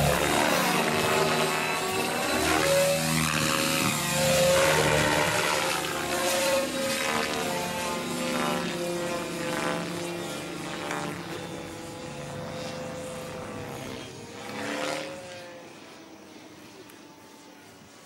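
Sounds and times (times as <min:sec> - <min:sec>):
helicopter motor and rotor hum: 0:00.0 - 0:18.0.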